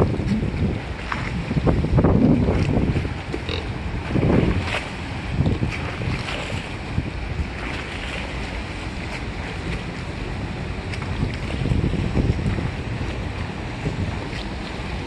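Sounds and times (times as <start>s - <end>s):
motorboat engine rumble: 0.0s - 15.0s
water washing against hull: 0.0s - 15.0s
wind buffeting microphone: 0.0s - 15.0s.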